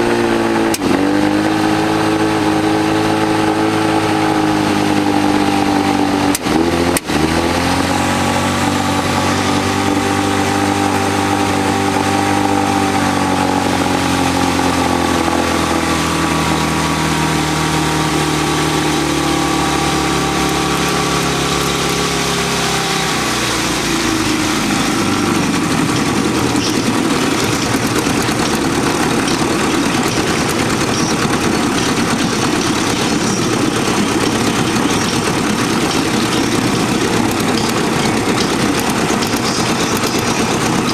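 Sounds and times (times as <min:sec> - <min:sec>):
engine running and misfiring: 0:00.0 - 0:40.9.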